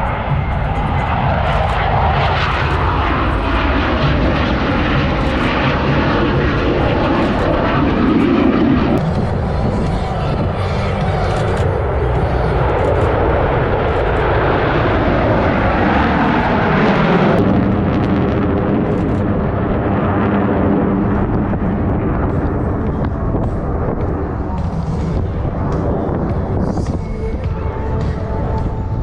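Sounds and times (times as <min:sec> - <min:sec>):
jet engine passing: 0:00.0 - 0:28.8.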